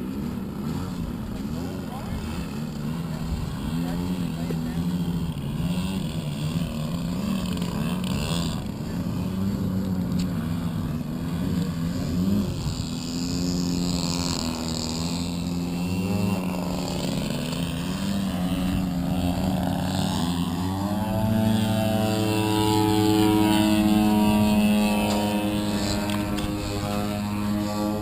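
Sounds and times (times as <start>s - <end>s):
model airplane engine droning: 0.0s - 28.0s.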